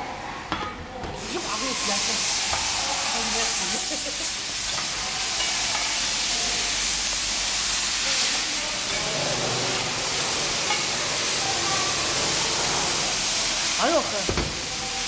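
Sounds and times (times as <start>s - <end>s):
loud hiss of press: 1.2s - 15.0s.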